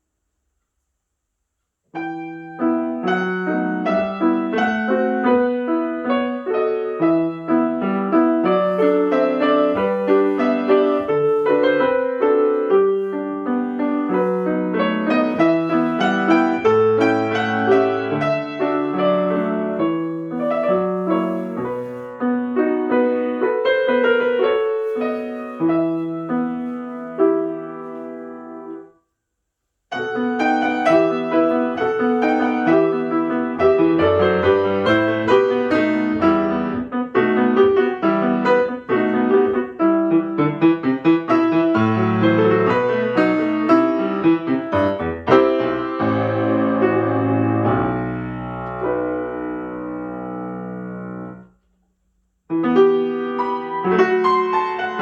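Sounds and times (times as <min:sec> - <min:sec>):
solo piano classical piece: 0:01.7 - 0:55.0.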